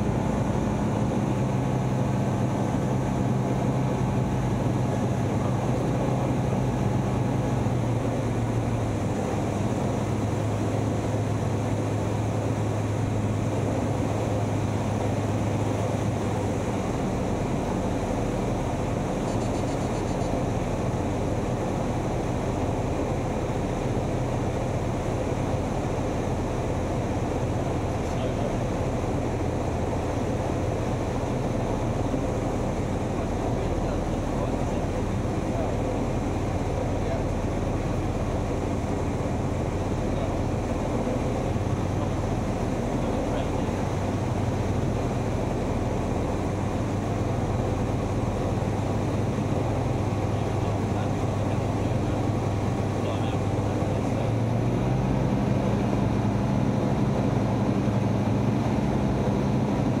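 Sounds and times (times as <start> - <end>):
propeller aircraft engine droning: 0.0 - 60.0.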